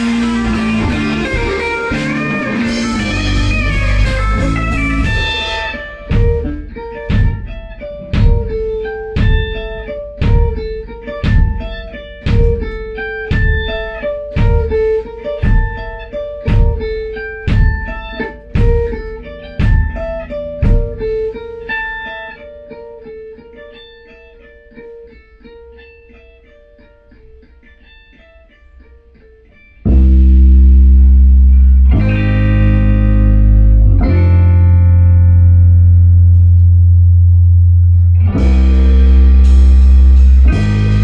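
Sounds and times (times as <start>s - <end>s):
loud low guitar chord: 0.0s - 22.2s, 29.9s - 41.0s
guitar picking: 0.0s - 41.0s.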